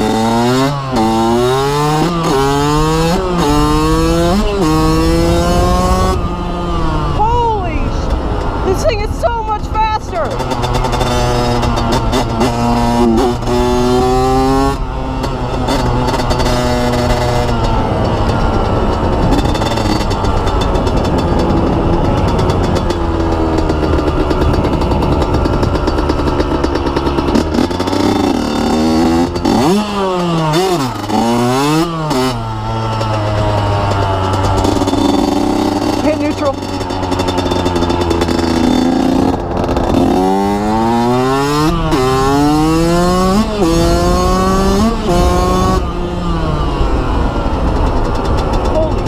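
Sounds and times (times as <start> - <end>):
dirt bike engine accelerating: 0.0 - 49.0.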